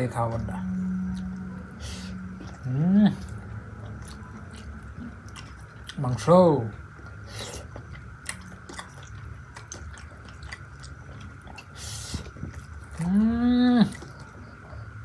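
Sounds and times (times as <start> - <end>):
person chewing food: 0.2 - 15.0.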